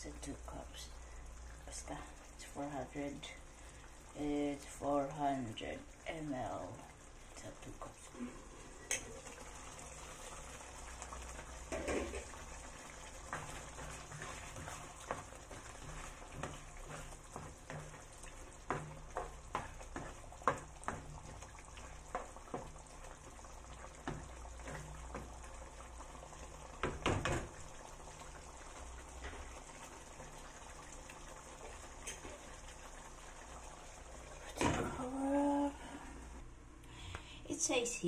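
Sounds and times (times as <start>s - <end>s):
curry simmering in a pan: 0.0s - 36.5s.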